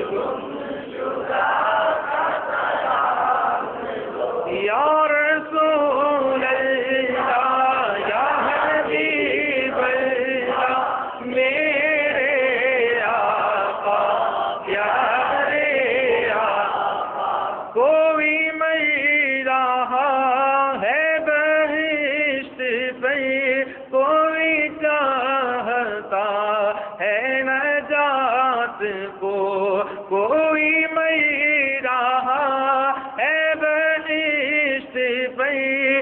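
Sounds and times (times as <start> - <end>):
man singing into a microphone: 4.5 - 14.0, 14.6 - 16.7, 17.8 - 36.0.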